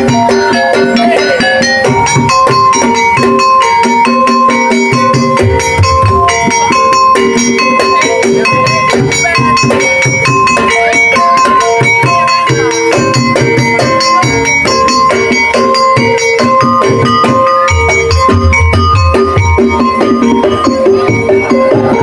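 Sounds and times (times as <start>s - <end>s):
melody of stepped notes: 0.0s - 22.0s
steady percussion beat: 0.0s - 22.0s.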